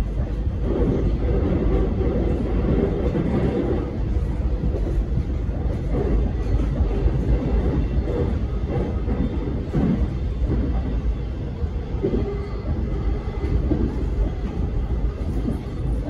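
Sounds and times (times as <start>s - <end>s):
wheels rumbling on track: 0.0s - 16.0s.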